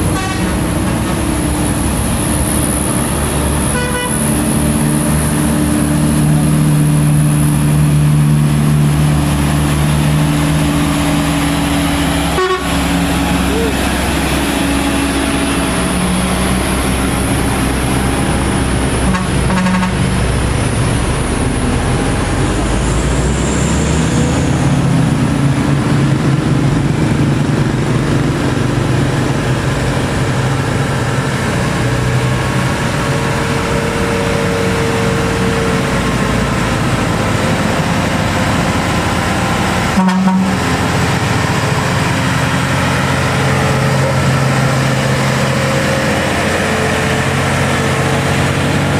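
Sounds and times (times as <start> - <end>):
heavy diesel trucks climbing: 0.0 - 48.9.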